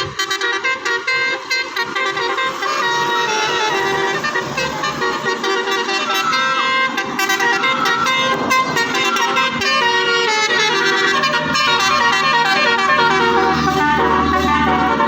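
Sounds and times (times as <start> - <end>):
musical car horn melody: 0.0 - 15.0.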